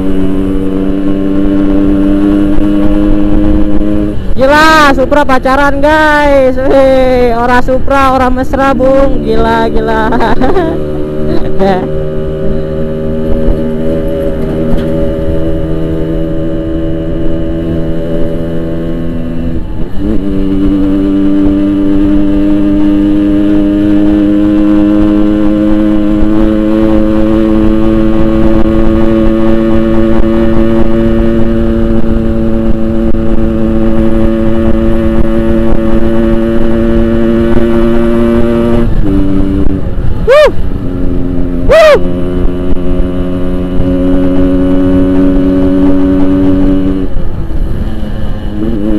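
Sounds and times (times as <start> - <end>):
motorcycle engine revving: 0.0 - 48.9
two-stroke motorcycle engine: 0.0 - 48.9.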